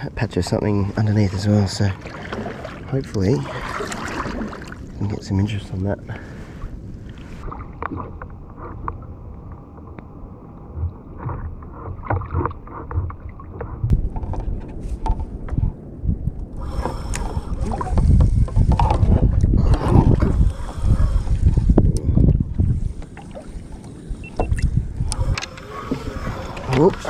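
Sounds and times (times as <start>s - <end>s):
gusty rumble: 0.0s - 27.0s
water lapping against kayak hull: 0.9s - 5.3s, 6.1s - 15.7s, 16.5s - 27.0s.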